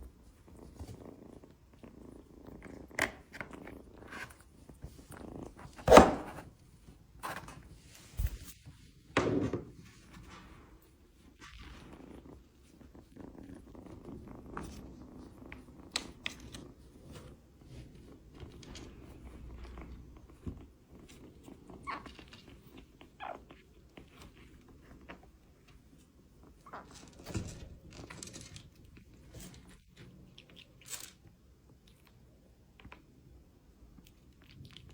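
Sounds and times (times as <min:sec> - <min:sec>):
kitten purring: 0:00.0 - 0:05.8, 0:09.7 - 0:34.9.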